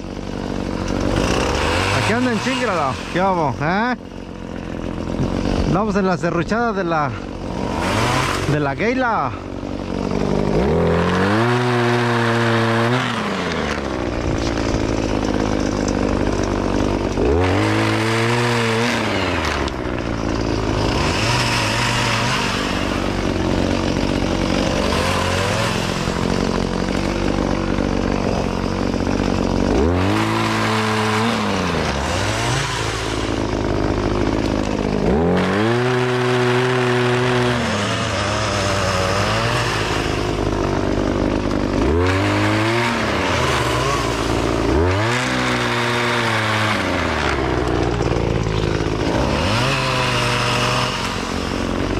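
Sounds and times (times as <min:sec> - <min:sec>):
pole saw engine revving: 0:00.0 - 0:51.9.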